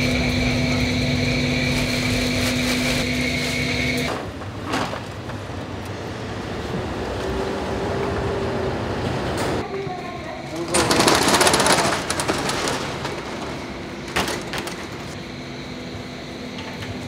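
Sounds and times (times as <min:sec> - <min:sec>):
kitchen exhaust fan roar: 0:00.0 - 0:17.0
street background noise: 0:00.0 - 0:17.0.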